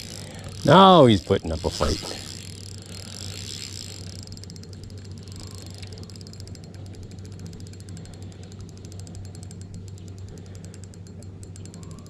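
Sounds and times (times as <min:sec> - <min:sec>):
fishing reel ticking rapidly: 0:00.0 - 0:12.0
steady low hum: 0:00.0 - 0:12.0.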